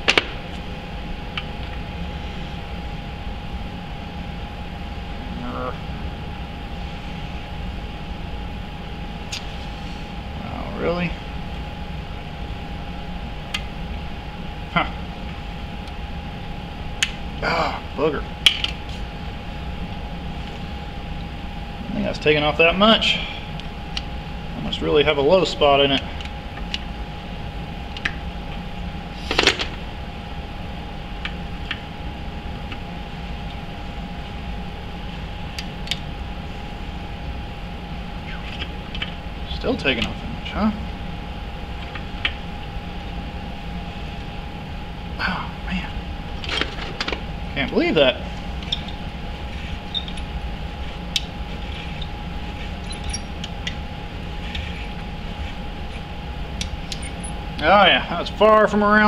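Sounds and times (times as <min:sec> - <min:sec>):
shop hum with faint whine: 0:00.0 - 0:59.0.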